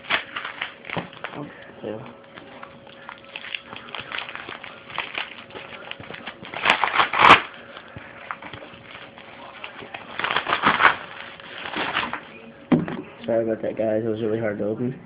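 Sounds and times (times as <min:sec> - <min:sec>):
packaging rustling and crinkling: 0:00.0 - 0:12.4
packaging scraping and tearing: 0:00.0 - 0:12.4.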